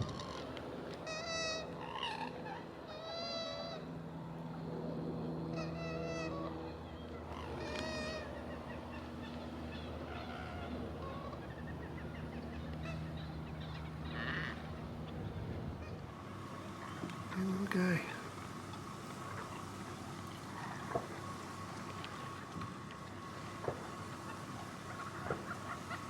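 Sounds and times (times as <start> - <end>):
wild bird honking calls: 0.0 - 4.0, 5.4 - 26.0
steady low hum: 0.0 - 26.0.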